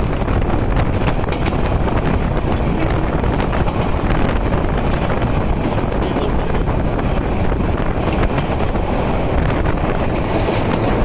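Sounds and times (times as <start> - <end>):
train rumbling on track: 0.0 - 11.0
wind buffeting microphone: 0.0 - 11.0.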